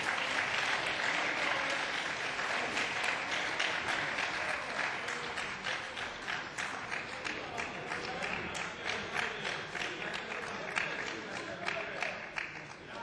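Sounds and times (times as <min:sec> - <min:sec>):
crowd applause: 0:00.0 - 0:13.0.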